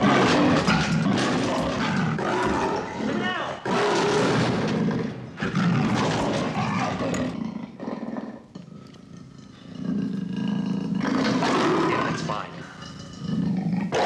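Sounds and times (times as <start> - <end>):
leopard snarling and roaring: 0.0 - 14.0.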